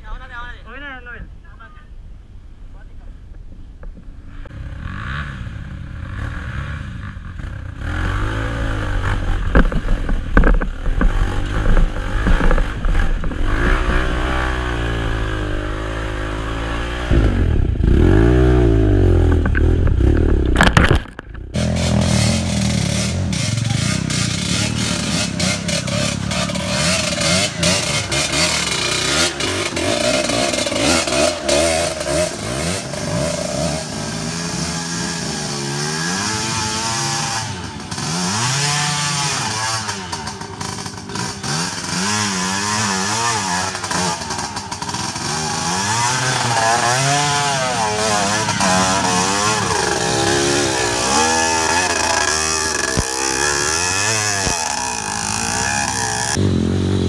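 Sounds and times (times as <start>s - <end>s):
motorcycle engine revving: 4.3s - 57.0s.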